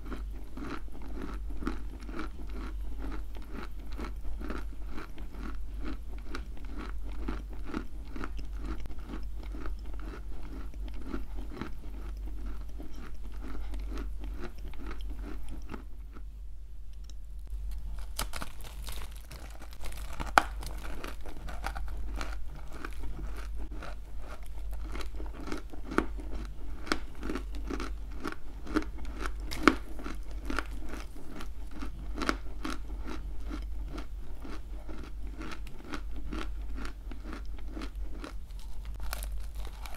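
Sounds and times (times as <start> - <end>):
crunching and chewing clay: 0.0 - 16.2, 17.7 - 39.9
steady low hum: 0.0 - 39.9.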